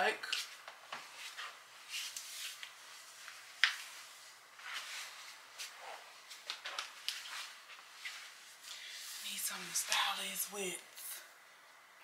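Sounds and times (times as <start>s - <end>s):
clothing rustling: 0.3s - 10.5s.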